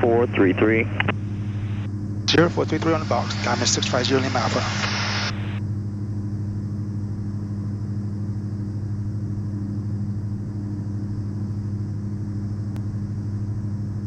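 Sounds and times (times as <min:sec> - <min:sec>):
aircraft engine and propeller droning: 0:00.0 - 0:14.0.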